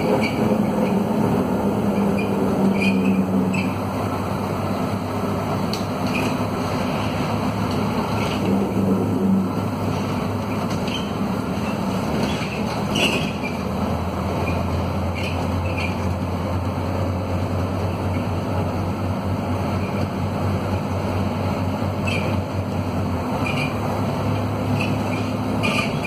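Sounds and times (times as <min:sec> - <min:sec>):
diesel bus engine under load: 0:00.0 - 0:26.0.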